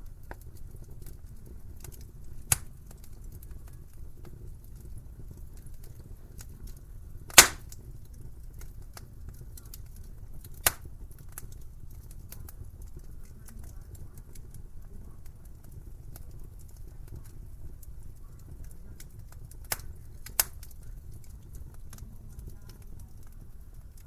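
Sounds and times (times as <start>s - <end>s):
burning wood popping: 0.0s - 24.0s
wood fire crackling: 0.0s - 24.0s.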